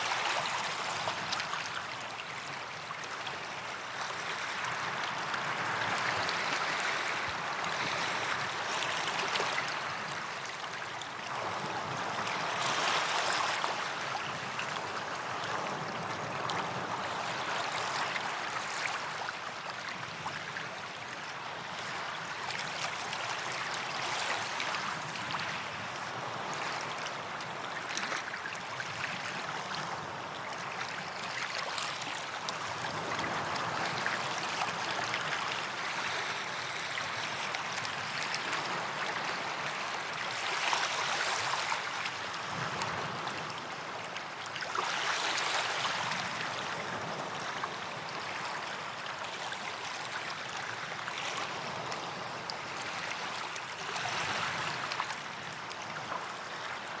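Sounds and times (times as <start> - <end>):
small waves washing onto beach: 0.0 - 57.0.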